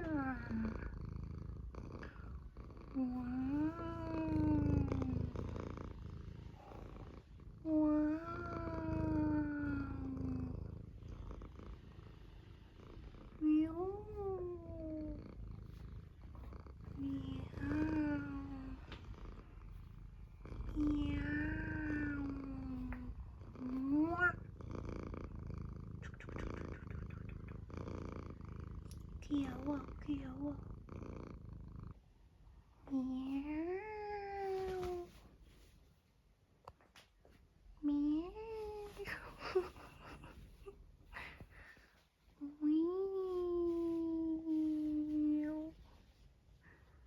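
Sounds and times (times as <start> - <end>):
cat purring: 0.0 - 47.0.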